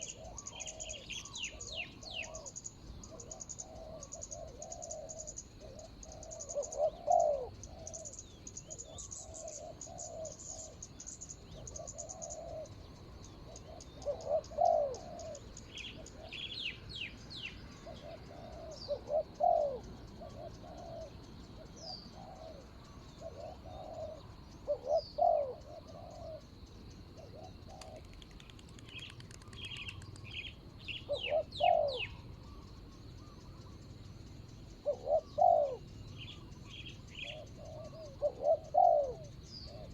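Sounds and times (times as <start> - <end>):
dove cooing: 0.0 - 33.8, 34.7 - 39.9
small bird chirping: 0.0 - 39.9.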